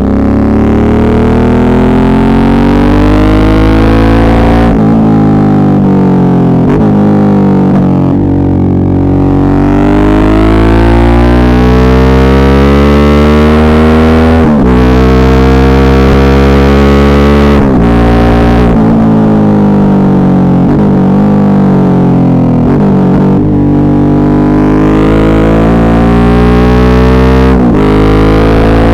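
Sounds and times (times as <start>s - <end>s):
motorcycle engine accelerating: 0.0s - 28.9s.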